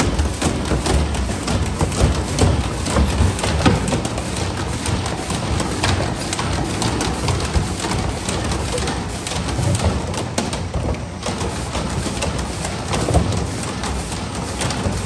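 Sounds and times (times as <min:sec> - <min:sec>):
conveyor machine noise: 0:00.0 - 0:15.0.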